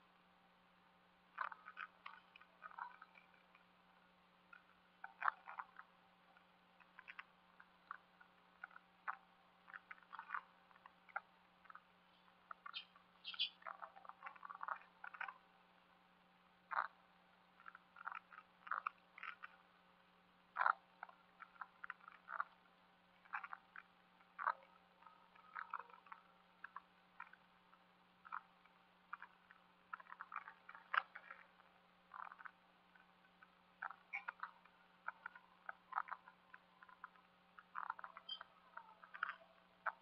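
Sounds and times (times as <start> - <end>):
faint steady hum: 0.0 - 40.0
frogs croaking: 1.3 - 3.6, 4.4 - 15.6, 16.6 - 19.6, 20.5 - 40.0.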